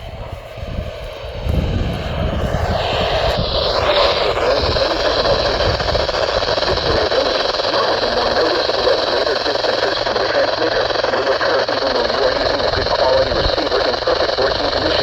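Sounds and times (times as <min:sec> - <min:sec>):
radio receiver hiss: 0:00.0 - 0:15.0.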